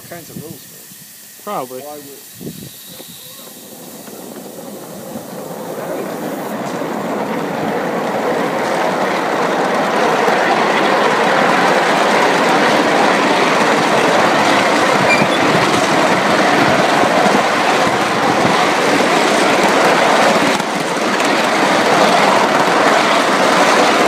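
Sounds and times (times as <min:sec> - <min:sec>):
steam exhaust: 0:00.0 - 0:24.0
wheels on rails: 0:00.0 - 0:24.0.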